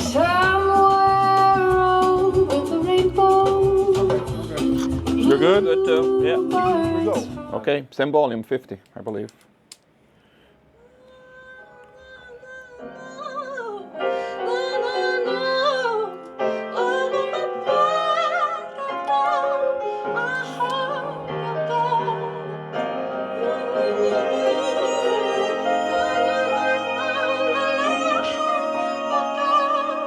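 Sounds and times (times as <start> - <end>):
person singing with vibrato: 0.0 - 7.6, 10.8 - 30.0
piano chords: 0.0 - 7.6, 11.2 - 30.0.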